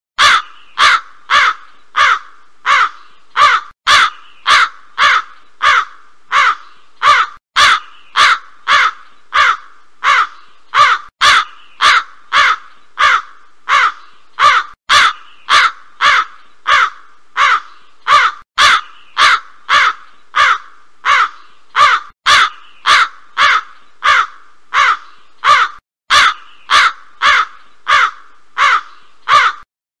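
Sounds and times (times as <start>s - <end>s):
crow cawing: 0.2s - 29.6s.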